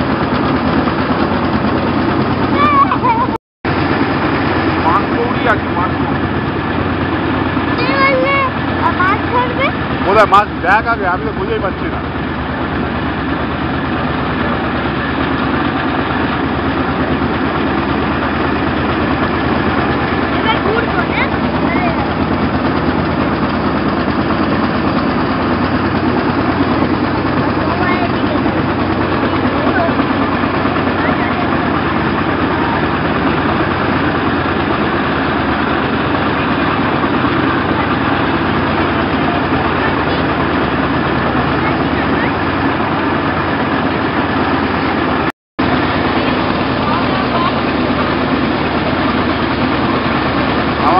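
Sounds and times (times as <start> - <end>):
boat diesel engine rumbling: 0.0 - 50.9.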